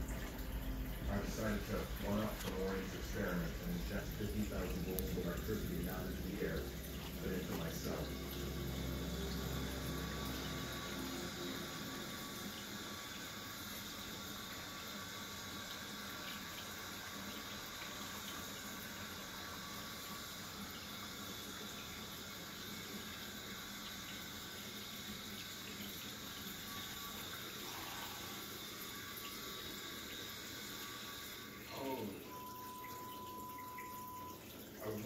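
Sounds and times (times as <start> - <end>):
water running and trickling: 0.0 - 35.0.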